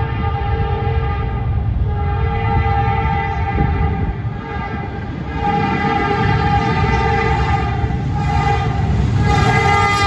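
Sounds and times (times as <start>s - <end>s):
locomotive air horn: 0.0s - 10.0s
train rumble: 0.0s - 10.0s.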